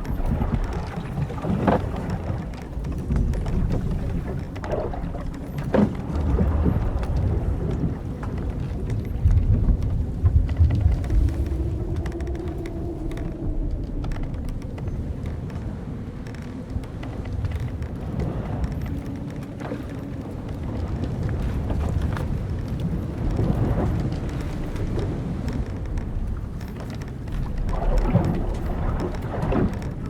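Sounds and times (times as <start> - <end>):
long drawn-out creak: 0.0 - 30.0
timbers and rigging creaking: 0.0 - 30.0
wind and waves against hull: 0.0 - 30.0.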